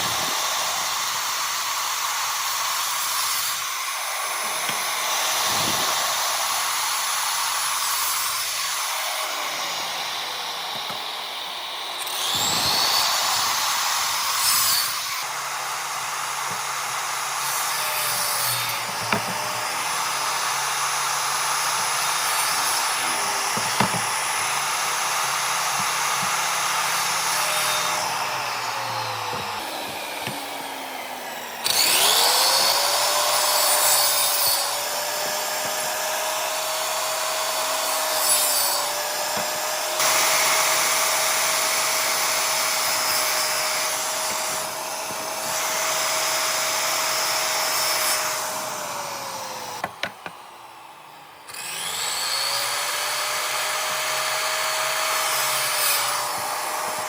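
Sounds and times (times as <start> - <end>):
power tool cutting wood: 0.0 - 57.0.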